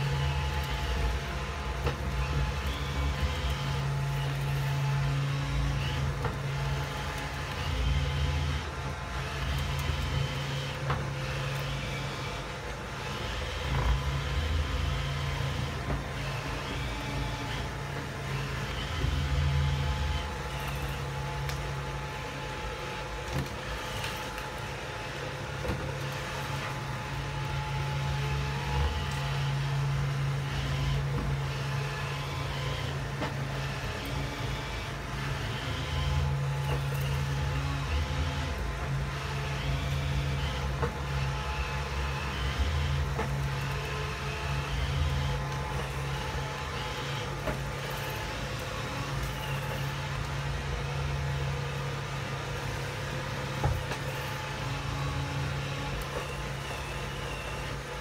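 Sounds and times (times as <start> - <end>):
robot vacuum humming: 0.0 - 58.0.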